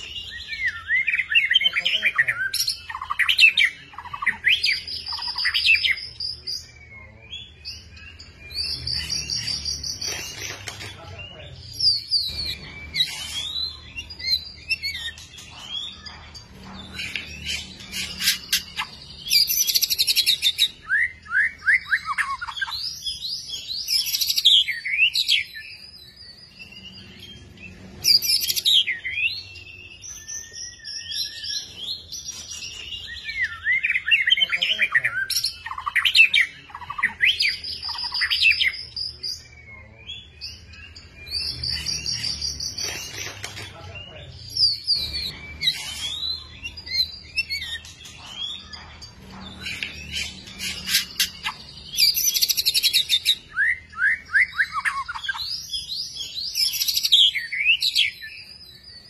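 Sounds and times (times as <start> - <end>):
songbird singing varied song: 0.0 - 59.0.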